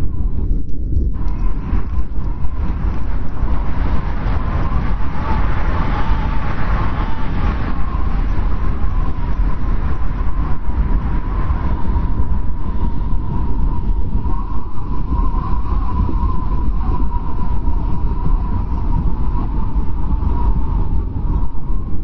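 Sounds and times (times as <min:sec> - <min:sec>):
blizzard wind blowing hard: 0:00.0 - 0:22.0
thin wavering wind whistle: 0:00.0 - 0:22.0.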